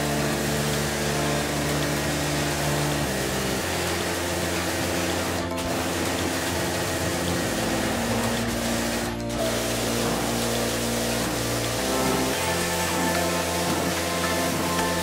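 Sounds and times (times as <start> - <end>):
pressure washer spraying hiss: 0.0 - 15.0
soft background music: 0.0 - 15.0.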